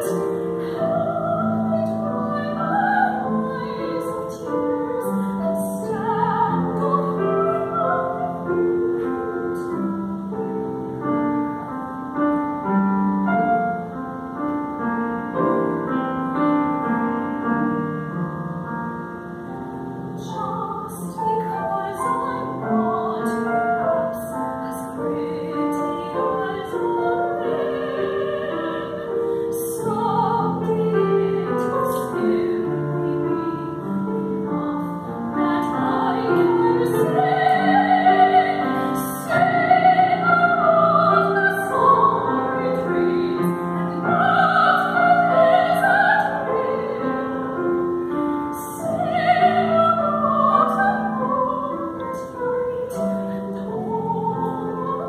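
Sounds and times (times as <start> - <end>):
grand piano accompaniment: 0.0 - 55.0
soprano singing: 0.0 - 55.0.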